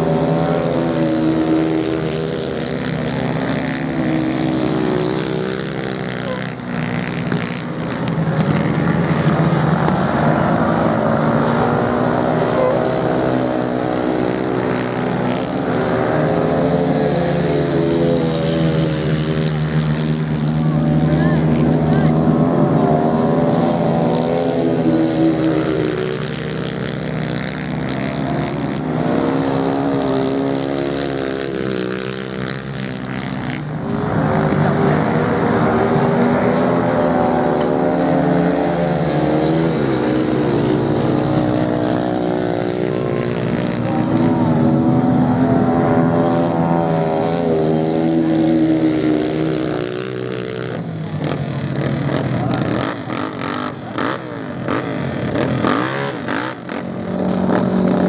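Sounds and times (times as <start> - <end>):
racing motorcycle engines revving: 0.0 - 58.0.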